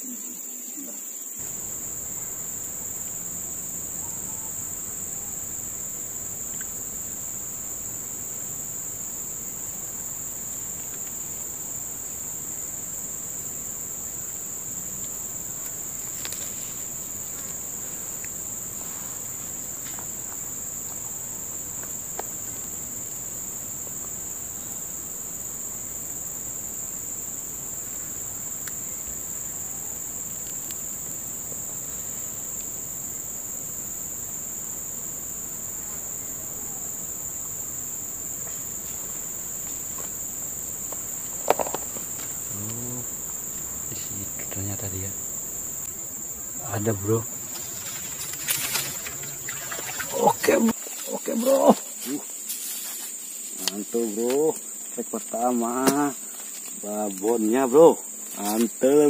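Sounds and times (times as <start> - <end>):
insects chorus drone: 0.0 - 59.0.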